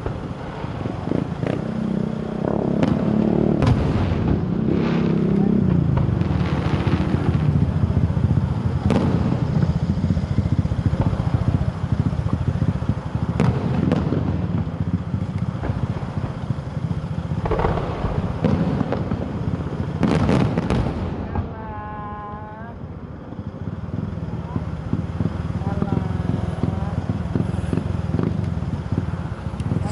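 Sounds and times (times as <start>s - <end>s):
fireworks bangs: 0.0s - 29.9s
low rumble: 0.0s - 29.9s.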